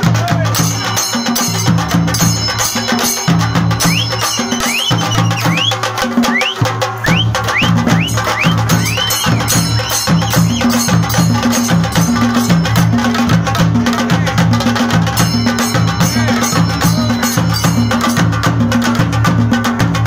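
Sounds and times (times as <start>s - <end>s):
drum ensemble playing fast rhythm: 0.0s - 20.0s.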